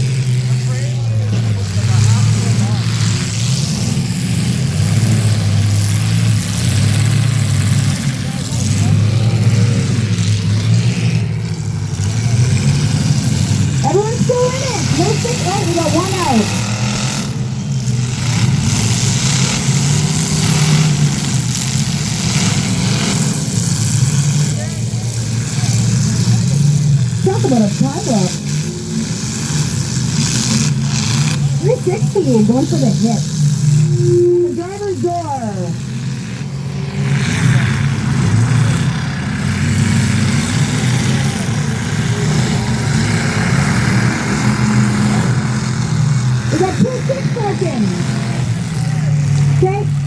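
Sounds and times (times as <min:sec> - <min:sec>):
broad noisy wash: 0:00.0 - 0:50.0
car engines running hard: 0:00.0 - 0:50.0.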